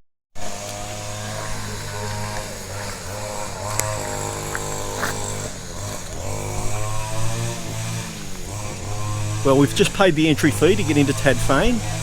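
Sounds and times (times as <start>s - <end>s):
small engine running: 0.4s - 12.0s.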